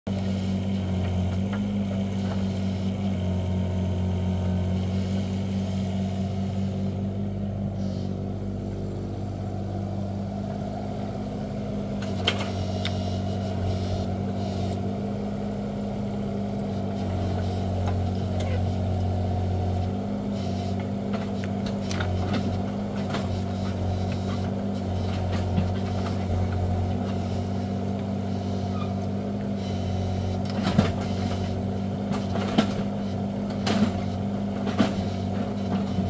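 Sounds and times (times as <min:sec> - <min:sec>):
diesel engine running: 0:00.1 - 0:36.0.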